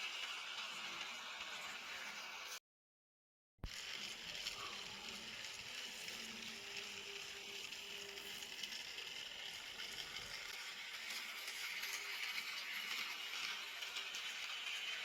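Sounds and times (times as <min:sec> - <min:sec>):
toy train whirring on track: 0:00.0 - 0:02.6, 0:03.6 - 0:15.0.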